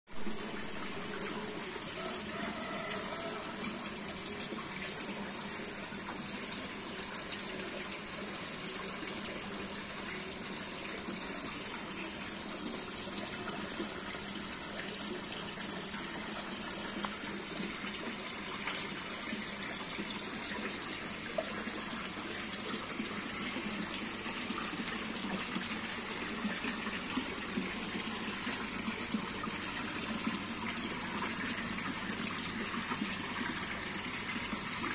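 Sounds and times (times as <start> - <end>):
water pouring into fish tank: 0.2 - 34.9.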